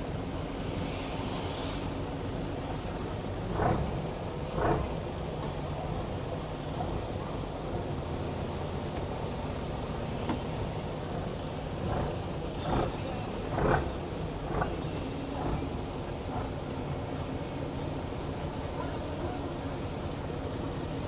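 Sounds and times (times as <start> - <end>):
boat engine running: 1.9 - 7.2, 8.2 - 21.0.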